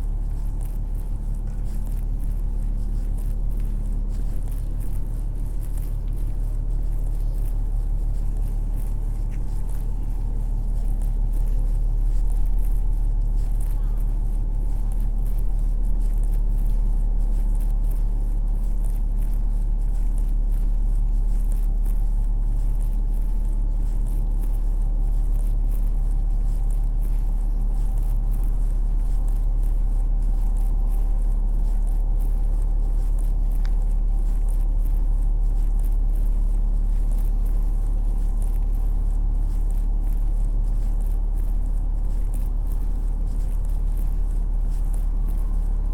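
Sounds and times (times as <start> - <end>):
faint ticks: 0.0 - 45.9
low city rumble: 0.0 - 45.9
mechanical hum: 0.0 - 45.9.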